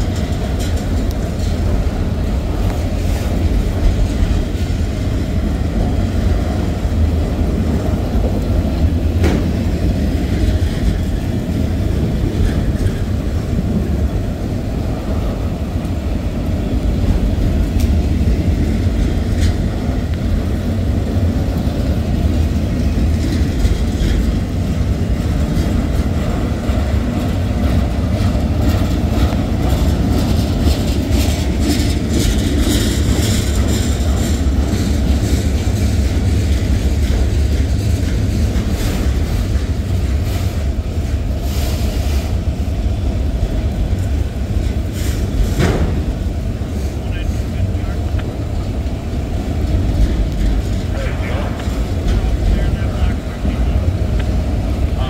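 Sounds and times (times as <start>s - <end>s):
train clicks and clanks: 0.0s - 55.0s
train wheels rumbling on rails: 0.0s - 55.0s.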